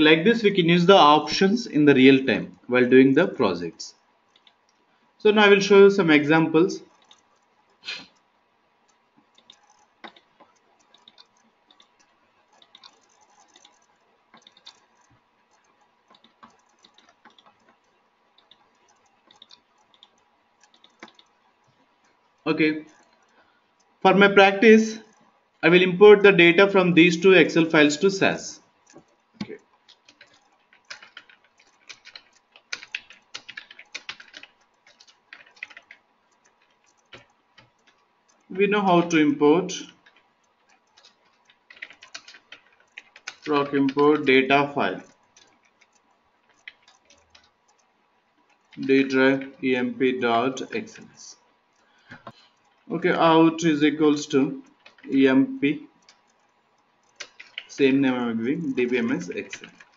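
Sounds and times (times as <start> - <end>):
computer mouse clicking: 2.3 - 4.9, 6.6 - 25.4, 26.6 - 59.9.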